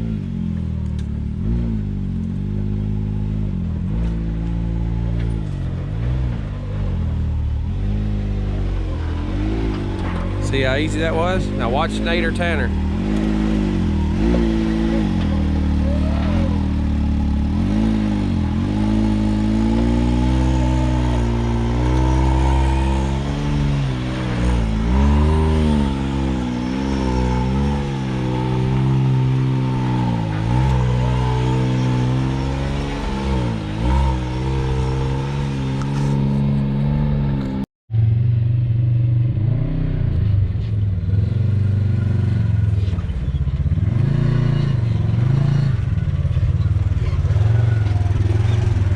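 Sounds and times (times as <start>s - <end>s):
off-road vehicle engine revving: 0.0s - 48.9s.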